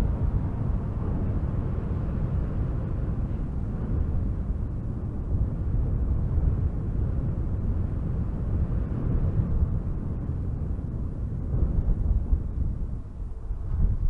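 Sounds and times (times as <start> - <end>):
strong wind through trees: 0.0 - 14.0.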